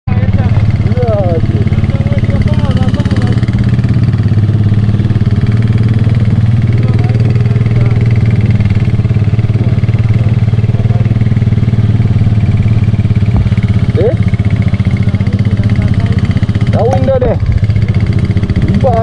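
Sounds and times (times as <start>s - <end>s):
motorcycle engine cruising: 0.1s - 19.0s.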